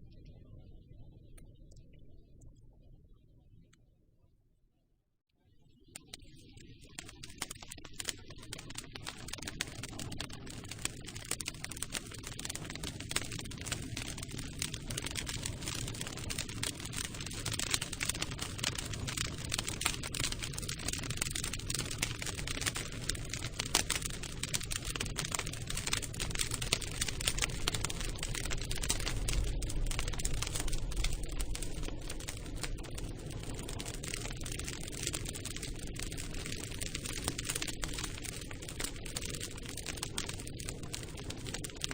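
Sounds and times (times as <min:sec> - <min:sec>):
wood crackling and popping: 0:05.9 - 0:41.9
low rumble of flames: 0:06.0 - 0:41.9.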